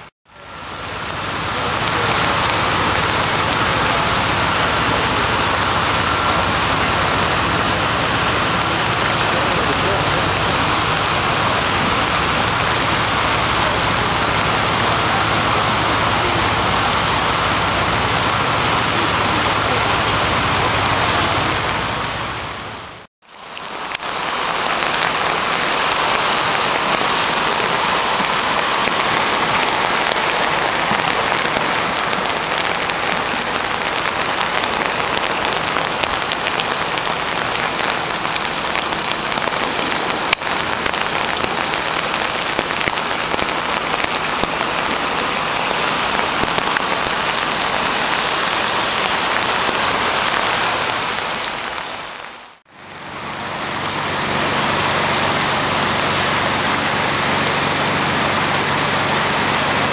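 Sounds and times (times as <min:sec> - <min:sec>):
creek rushing: 0:00.0 - 0:59.9.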